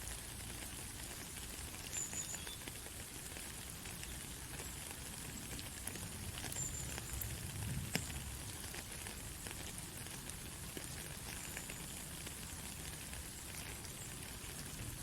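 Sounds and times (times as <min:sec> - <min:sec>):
light rain: 0:00.0 - 0:15.0.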